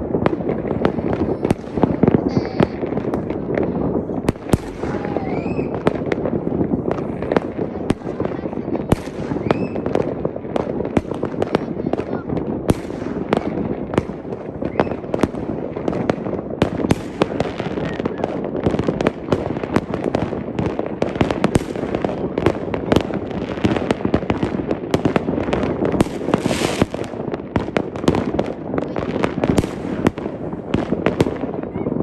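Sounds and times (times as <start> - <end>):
firework hiss: 0.0 - 31.7
fireworks bangs and crackles: 0.0 - 32.0.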